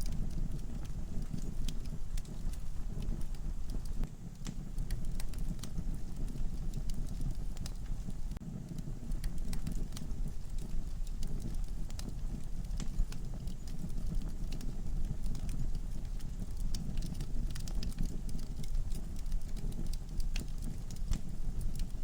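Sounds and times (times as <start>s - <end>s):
logs crackling and popping: 0.0s - 22.0s
low rumble of flame: 0.0s - 22.0s.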